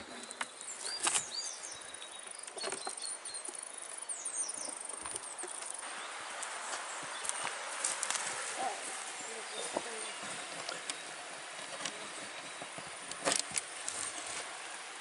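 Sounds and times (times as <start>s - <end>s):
rustling hiss: 0.0s - 15.0s
small birds chirping: 0.0s - 15.0s.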